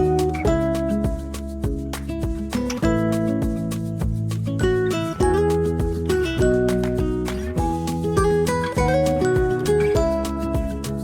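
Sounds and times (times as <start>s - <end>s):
guitar and drum music: 0.0s - 11.0s.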